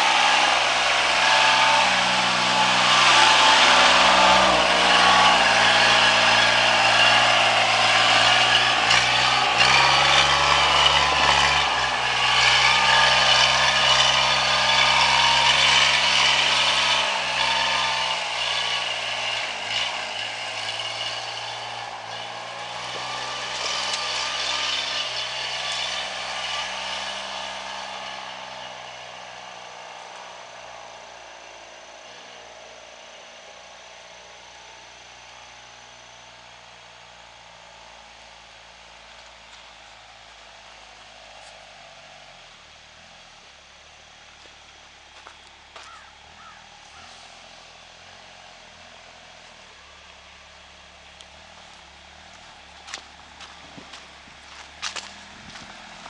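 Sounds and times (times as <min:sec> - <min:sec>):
diesel engine climbing: 0:00.0 - 0:56.0.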